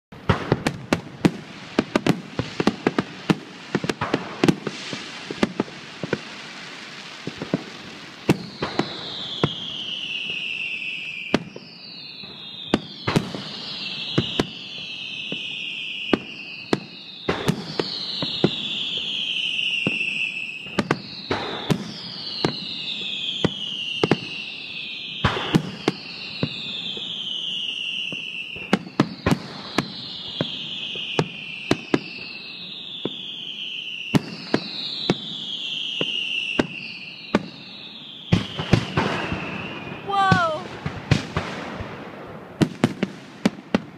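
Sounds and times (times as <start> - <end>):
falling firework whistles: 0.2 - 43.9.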